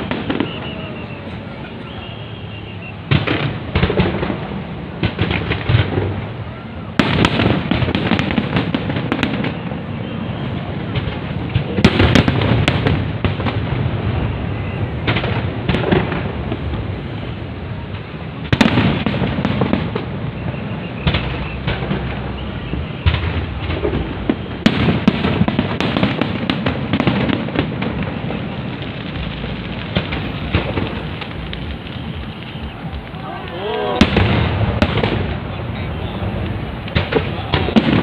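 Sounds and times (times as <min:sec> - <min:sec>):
fireworks bursting: 0:00.0 - 0:38.0
fireworks crackling: 0:00.0 - 0:38.0.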